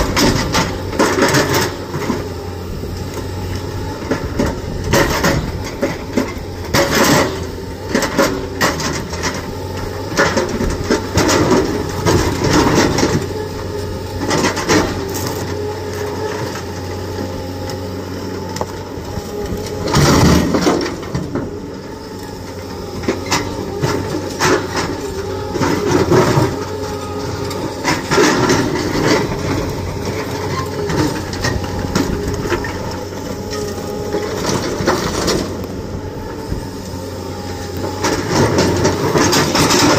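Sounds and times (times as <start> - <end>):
diesel excavators running: 0.0 - 39.9
rock breaker hammering boulders: 0.0 - 39.9.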